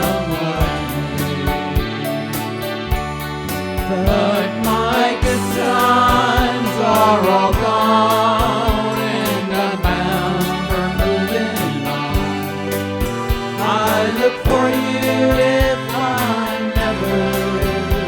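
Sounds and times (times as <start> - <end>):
country band playing: 0.0 - 18.0.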